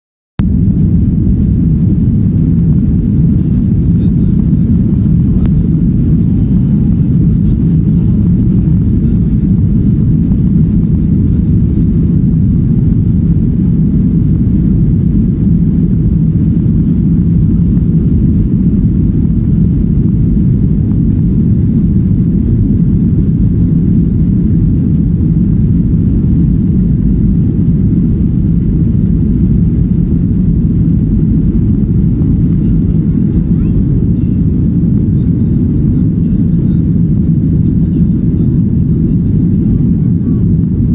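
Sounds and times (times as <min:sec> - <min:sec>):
jet engines rumbling in cabin: 0:00.4 - 0:40.9.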